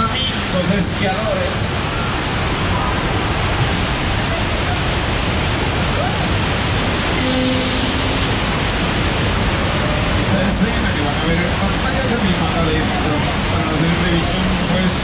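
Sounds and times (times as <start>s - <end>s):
loud rushing noise: 0.3s - 15.0s.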